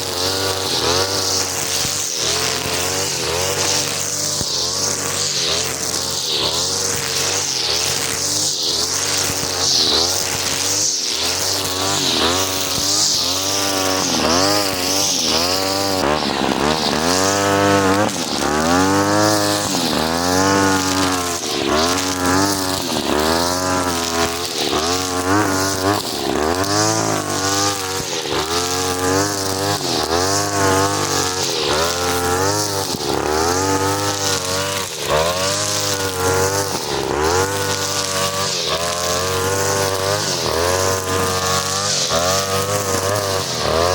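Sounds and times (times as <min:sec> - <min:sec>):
brush cutter engine revving: 0:00.0 - 0:43.9.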